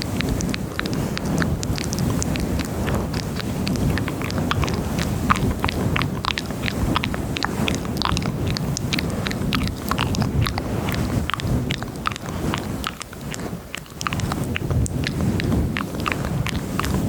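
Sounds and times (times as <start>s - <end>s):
wet mouth clicks and smacks: 0.0s - 17.0s.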